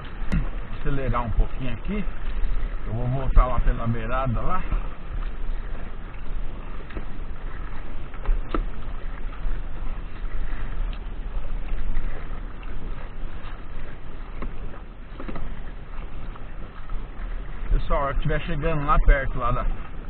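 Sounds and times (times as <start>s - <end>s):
water sloshing against kayak hull: 0.0s - 20.0s
wind buffeting microphone: 0.0s - 20.0s.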